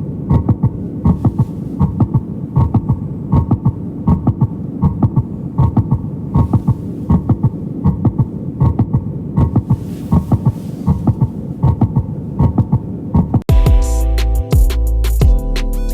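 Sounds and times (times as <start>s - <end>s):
steady low hum: 0.0s - 13.5s
heartbeat thumps: 0.3s - 13.9s.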